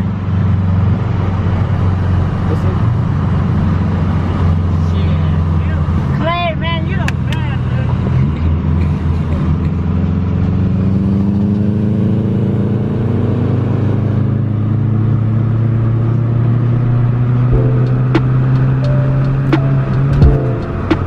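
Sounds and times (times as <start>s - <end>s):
car engine droning loudly: 0.0s - 21.0s.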